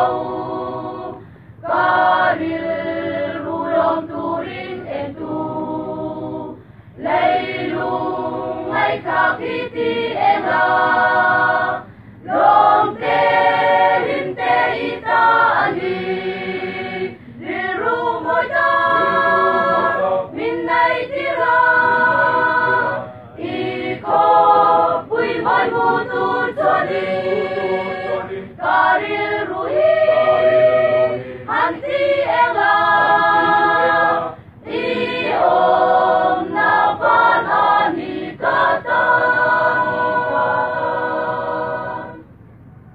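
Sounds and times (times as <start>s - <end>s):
choir singing a cappella: 0.0s - 42.4s.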